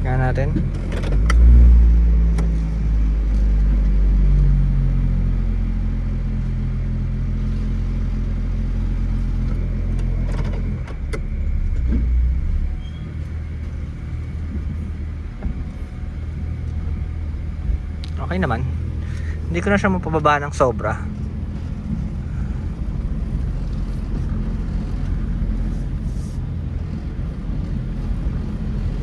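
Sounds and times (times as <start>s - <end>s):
car engine humming: 0.0s - 29.0s.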